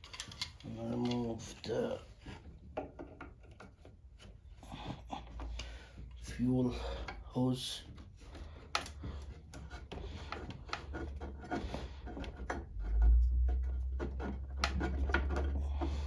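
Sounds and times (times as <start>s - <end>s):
hands working a hose clamp: 0.0s - 16.0s.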